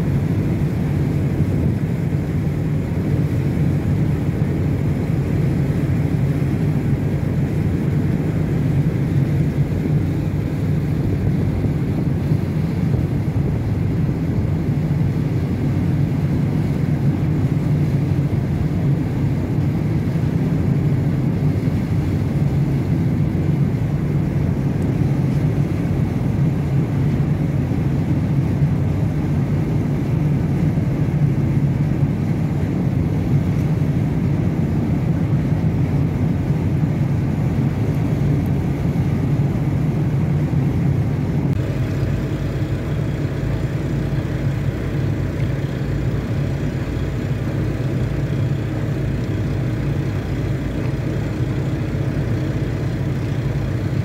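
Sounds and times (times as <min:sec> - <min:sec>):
boat engine rumble: 0:00.0 - 0:54.0
water noise: 0:00.0 - 0:54.0
wind: 0:00.0 - 0:54.0.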